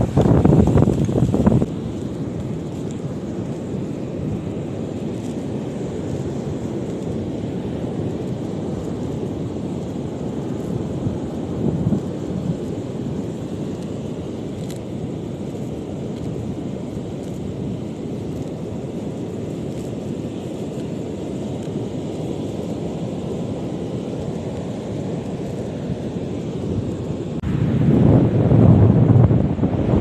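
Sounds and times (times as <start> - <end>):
sea surf washing: 0.0 - 30.0
wind buffeting microphone: 0.0 - 30.0.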